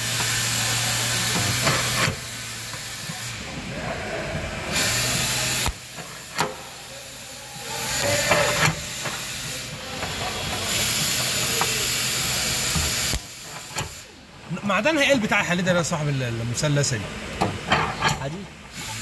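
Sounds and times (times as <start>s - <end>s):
spot welder hissing and buzzing: 0.0s - 16.2s, 17.0s - 19.0s.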